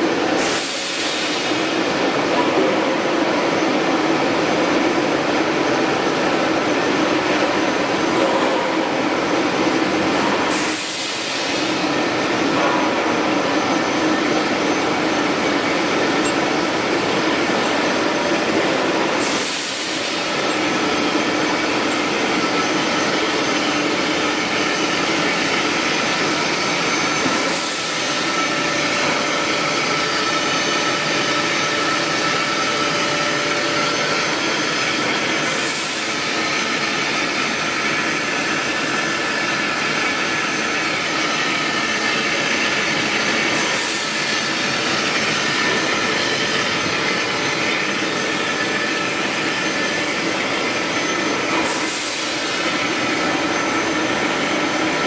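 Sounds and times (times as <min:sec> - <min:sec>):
industrial mill drone: 0:00.0 - 0:55.0.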